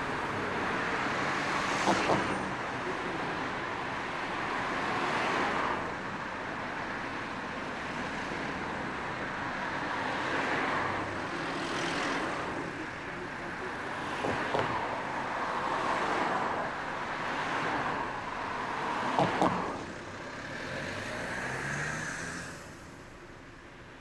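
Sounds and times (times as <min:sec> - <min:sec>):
passing road traffic: 0:00.0 - 0:24.0.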